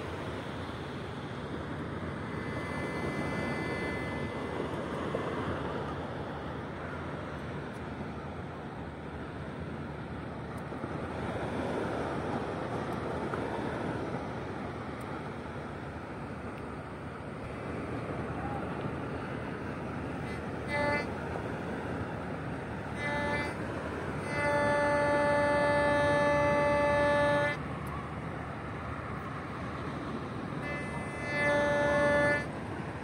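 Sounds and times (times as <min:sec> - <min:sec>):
surf: 0:00.0 - 0:33.0
wind: 0:00.0 - 0:33.0.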